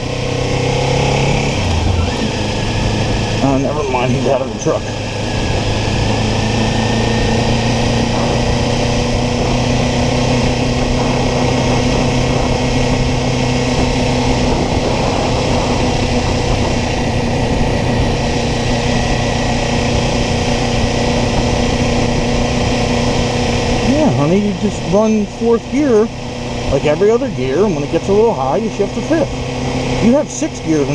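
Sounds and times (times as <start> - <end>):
motorcycle engine running steadily: 0.0 - 30.9.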